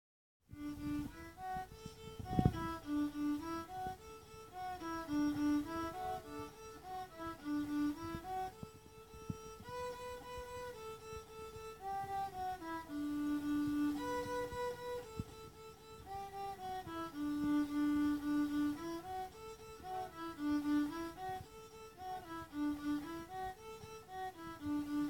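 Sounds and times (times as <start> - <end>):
solo violin melody: 0.5 - 25.0.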